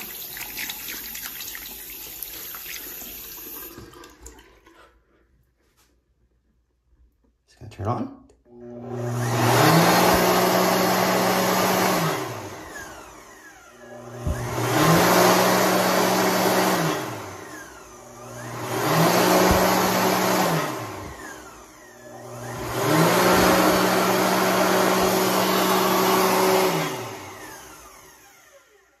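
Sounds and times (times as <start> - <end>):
hand dryer blowing: 0.0 - 4.9, 8.6 - 28.6.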